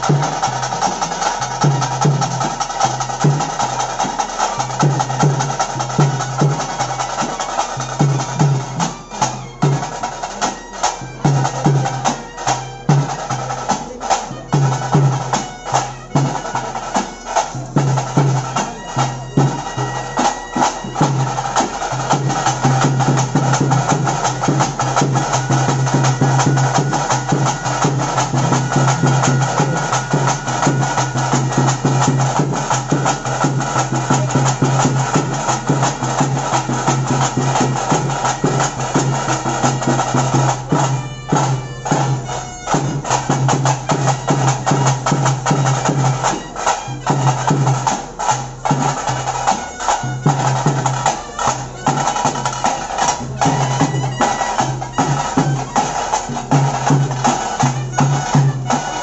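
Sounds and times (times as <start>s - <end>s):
drumming: 0.0s - 59.0s.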